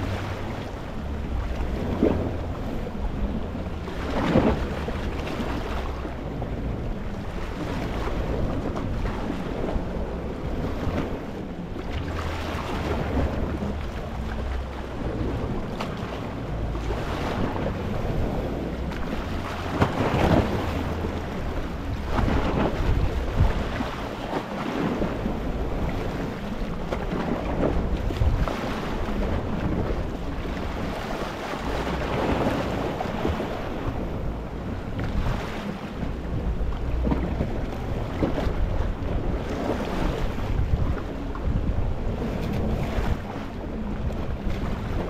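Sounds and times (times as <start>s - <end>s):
steady low rumble: 0.0s - 45.0s
waves washing over rocky shore: 0.0s - 45.0s.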